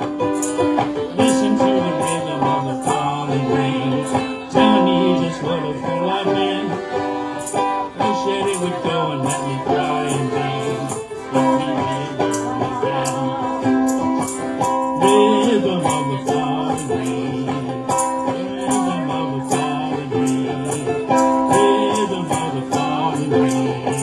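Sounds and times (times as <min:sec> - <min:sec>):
ukulele band playing: 0:00.0 - 0:24.0.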